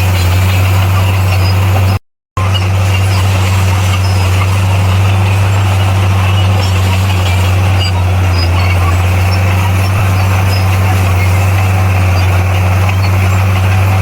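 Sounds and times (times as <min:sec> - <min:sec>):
heavy machinery diesel engine drone: 0:00.0 - 0:14.0.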